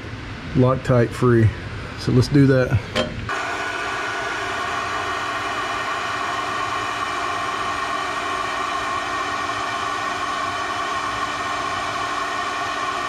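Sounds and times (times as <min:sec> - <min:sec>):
induction heater whine and hiss: 0:00.0 - 0:13.0.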